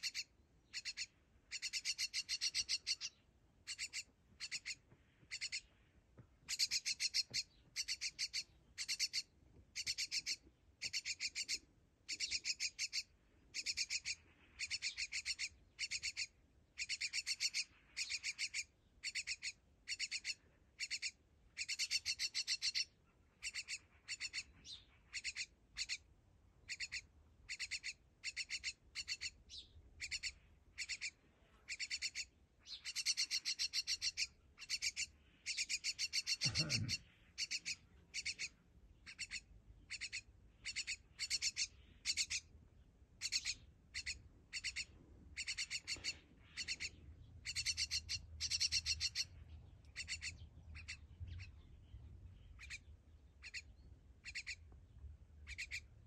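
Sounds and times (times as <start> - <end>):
fledgling bird begging calls: 0.0 - 5.7, 6.5 - 26.1, 26.7 - 42.5, 43.2 - 51.6, 52.6 - 54.7, 55.4 - 56.0.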